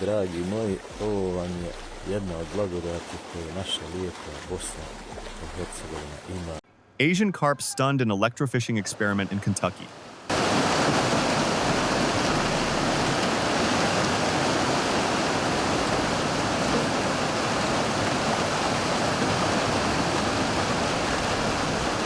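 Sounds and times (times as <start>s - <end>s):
river water splashing: 0.0s - 6.6s, 9.0s - 22.0s.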